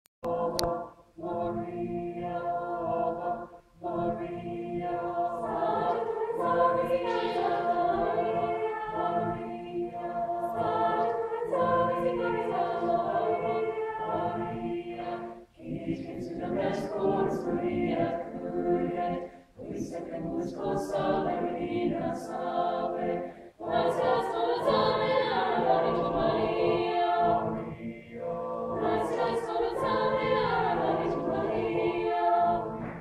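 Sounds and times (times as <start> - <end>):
choir singing held chords: 0.2 - 33.0.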